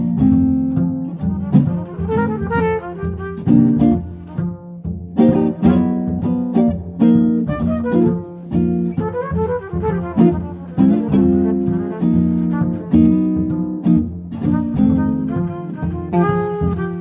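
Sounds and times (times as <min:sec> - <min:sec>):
archtop guitar: 0:00.0 - 0:17.0
plucked double bass: 0:00.0 - 0:17.0
trumpet: 0:00.7 - 0:17.0.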